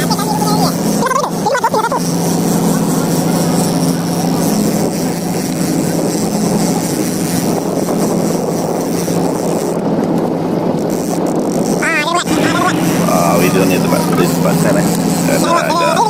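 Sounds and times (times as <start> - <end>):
boat engine humming: 0.0 - 16.0
wind: 0.0 - 16.0.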